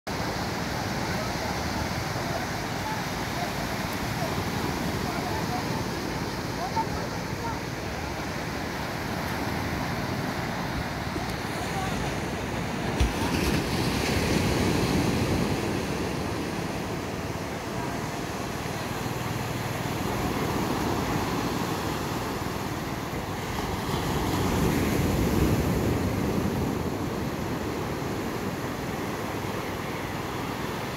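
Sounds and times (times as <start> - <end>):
surf breaking on beach: 0.1 - 30.9.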